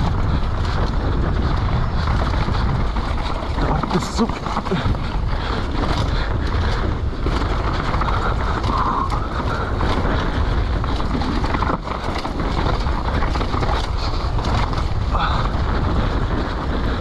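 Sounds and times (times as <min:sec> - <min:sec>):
bike rattling and knocking: 0:00.0 - 0:17.0
tyres rumbling on dirt: 0:00.0 - 0:17.0
wind buffeting microphone: 0:00.0 - 0:17.0.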